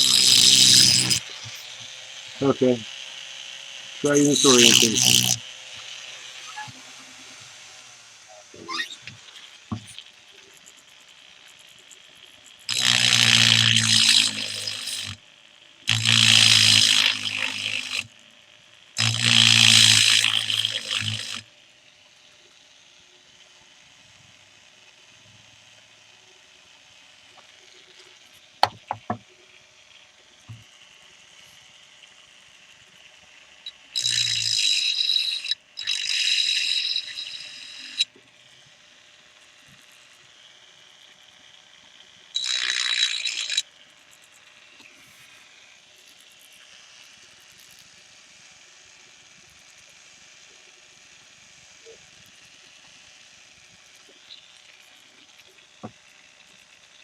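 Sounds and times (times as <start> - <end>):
rotary tool grinding: 0.0 - 21.5, 25.4 - 50.1, 50.9 - 57.0.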